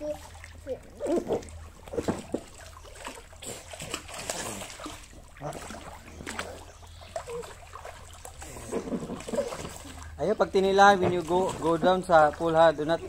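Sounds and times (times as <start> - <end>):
water splashing in a pool: 0.0 - 13.0.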